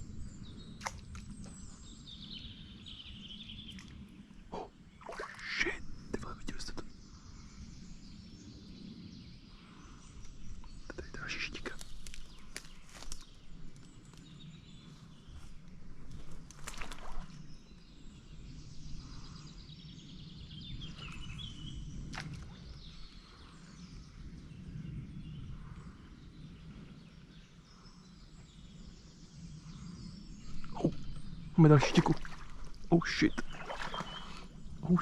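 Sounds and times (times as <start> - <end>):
faint bird chirps: 0.0 - 15.6, 16.2 - 35.0.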